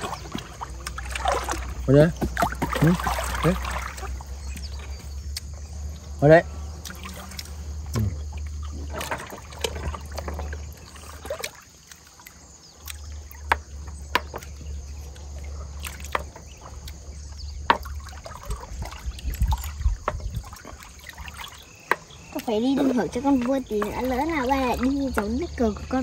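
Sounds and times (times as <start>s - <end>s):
river water lapping: 0.0s - 26.0s.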